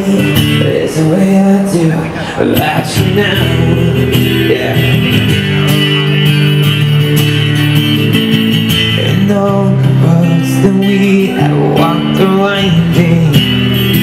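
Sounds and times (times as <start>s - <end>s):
amplified guitar playing: 0.0s - 14.0s.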